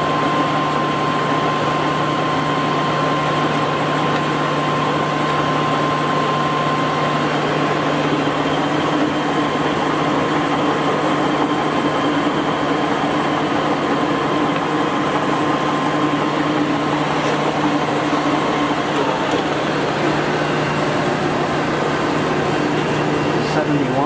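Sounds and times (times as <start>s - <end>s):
high whine: 0.0s - 24.0s
lathe motor humming: 0.0s - 24.0s.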